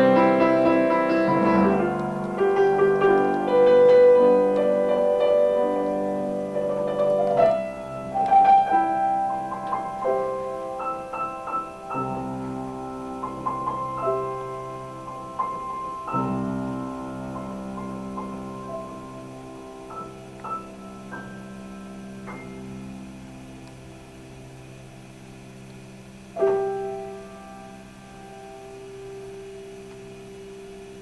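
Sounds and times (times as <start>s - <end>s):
slow piano music: 0.0s - 31.0s.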